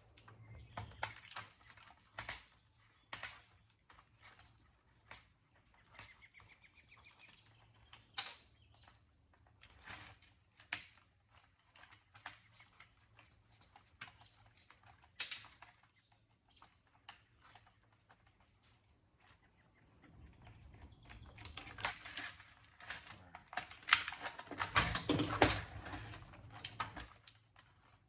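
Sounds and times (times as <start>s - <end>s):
small parts clicking and clattering: 0.1s - 19.3s, 20.0s - 28.0s.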